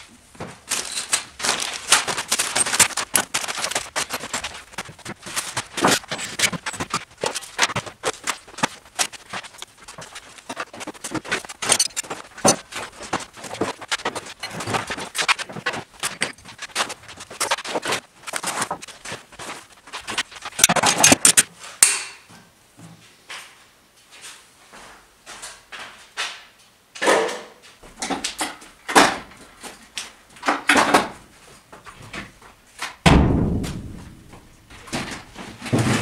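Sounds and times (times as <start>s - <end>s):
boxes knocking and clattering on shelf: 0.4s - 21.5s, 27.0s - 29.8s, 30.4s - 36.0s.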